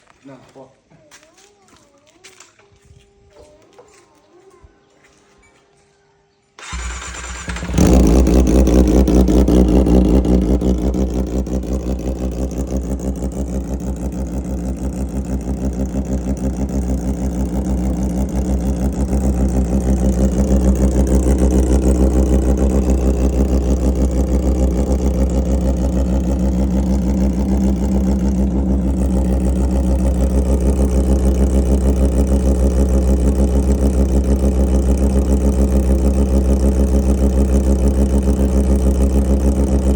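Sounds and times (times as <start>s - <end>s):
motorcycle engine starting and idling: 6.5s - 39.9s.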